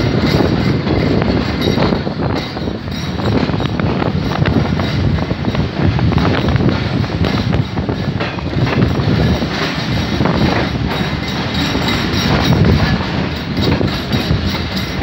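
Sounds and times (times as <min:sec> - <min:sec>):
train wheels rumbling on rails: 0:00.0 - 0:15.0
wheels clicking over rail joints: 0:00.0 - 0:15.0.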